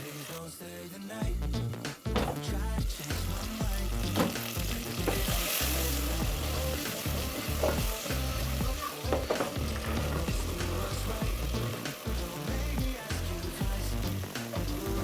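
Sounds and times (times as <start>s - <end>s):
food sizzling in a frying pan: 0.0s - 15.0s
background music with bass: 0.5s - 15.0s.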